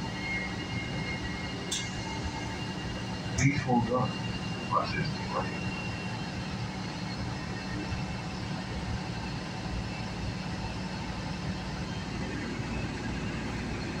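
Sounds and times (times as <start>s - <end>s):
bus engine hum: 0.0s - 14.0s.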